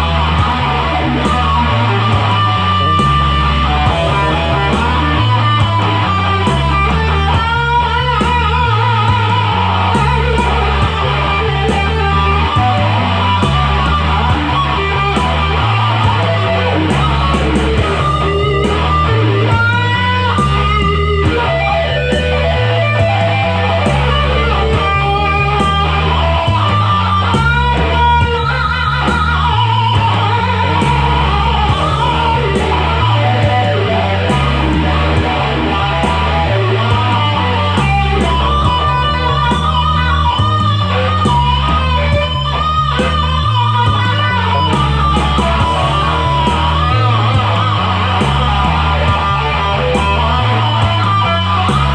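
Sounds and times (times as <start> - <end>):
bass line: 0.0 - 51.9
drums: 0.0 - 51.9
electric guitar lead: 0.0 - 51.9.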